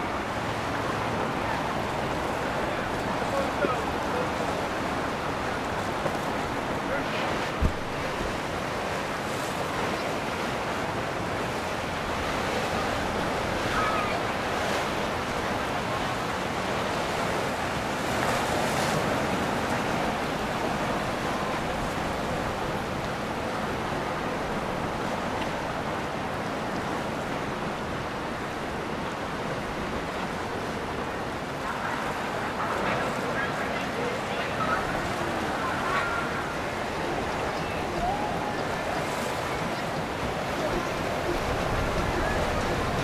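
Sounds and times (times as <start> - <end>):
moving water: 0.0 - 43.0.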